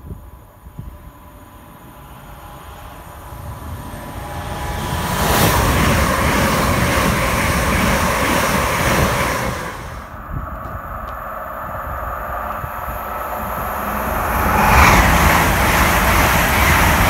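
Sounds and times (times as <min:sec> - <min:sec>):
passenger train passing at speed: 0:00.0 - 0:17.0.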